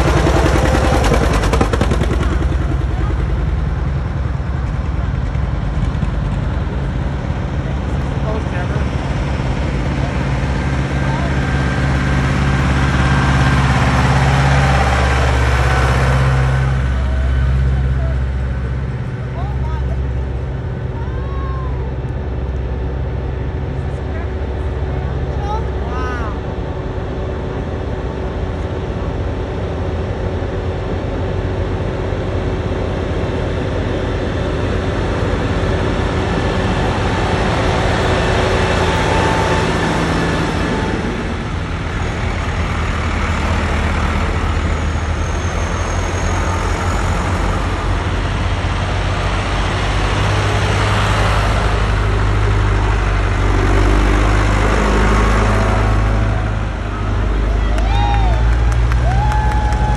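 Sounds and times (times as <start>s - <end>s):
tractors driving past: 0.0s - 59.9s.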